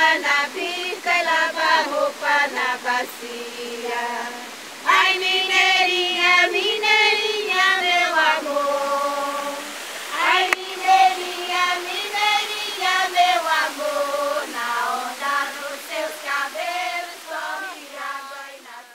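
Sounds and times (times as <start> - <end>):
women's choir singing unaccompanied: 0.0 - 18.9.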